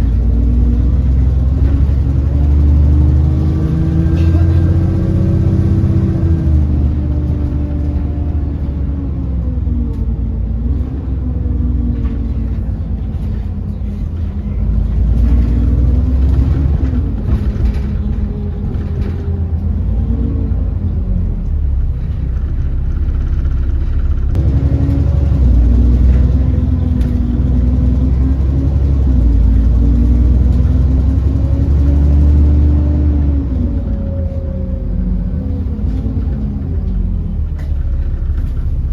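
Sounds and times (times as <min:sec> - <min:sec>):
bus engine rumble and whine: 0:00.0 - 0:38.9.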